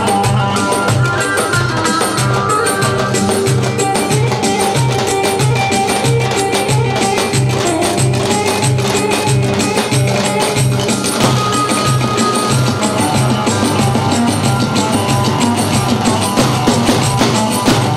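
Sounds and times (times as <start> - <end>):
bass drum steady beat: 0.0 - 17.9
folk dance music: 0.0 - 17.9.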